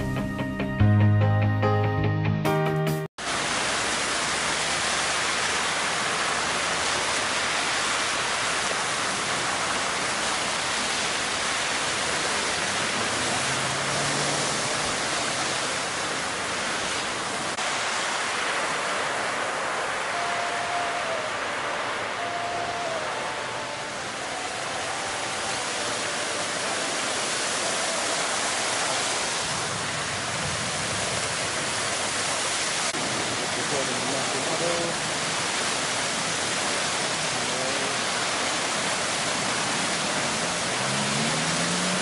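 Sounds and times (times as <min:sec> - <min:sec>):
heavy rain: 0:03.2 - 0:42.0
rushing water: 0:03.2 - 0:42.0.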